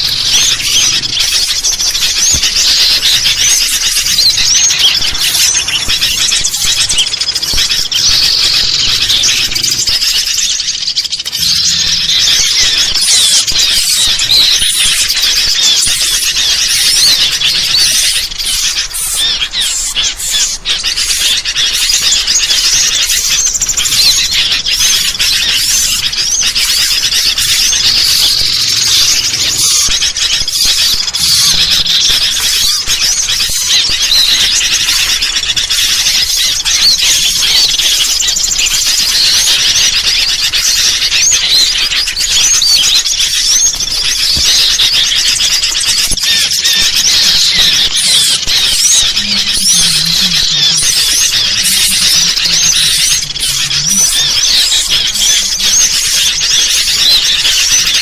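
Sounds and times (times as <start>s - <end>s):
bulbul calls: 0.0s - 58.0s
small songbirds chattering: 0.0s - 58.0s.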